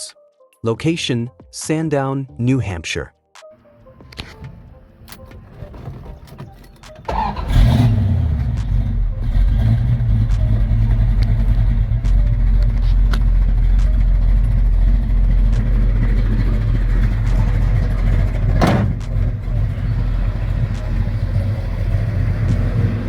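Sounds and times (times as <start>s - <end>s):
car engine idling: 3.7s - 23.0s.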